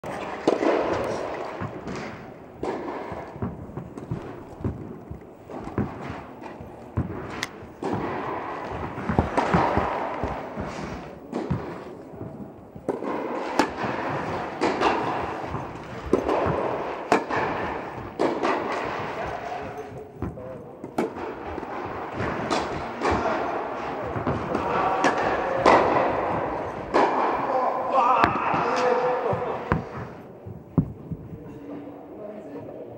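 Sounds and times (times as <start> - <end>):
tennis balls struck and bouncing: 0.1 - 31.7.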